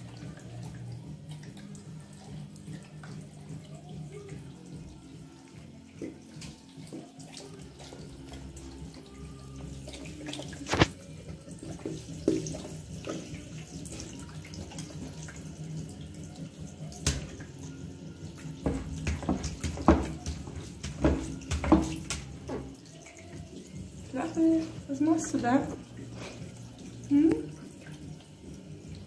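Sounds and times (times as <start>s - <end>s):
puppy lapping water: 0.0s - 29.0s
water running from hand shower: 0.0s - 29.0s.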